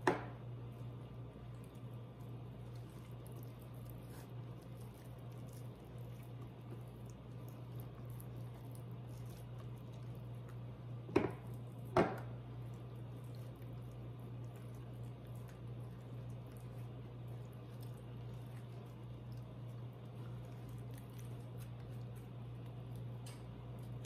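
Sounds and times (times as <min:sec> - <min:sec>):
steady low hum: 0:00.0 - 0:24.0
wet squishing of hands: 0:00.6 - 0:24.0.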